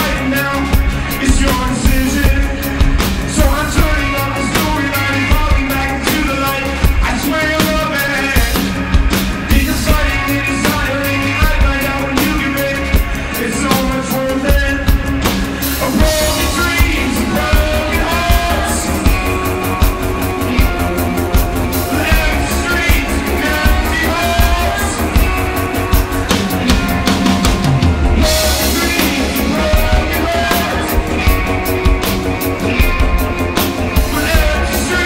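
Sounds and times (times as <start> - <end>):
drum kit beat: 0.0 - 35.0
electric guitar: 0.0 - 35.0
male lead singer: 0.0 - 35.0.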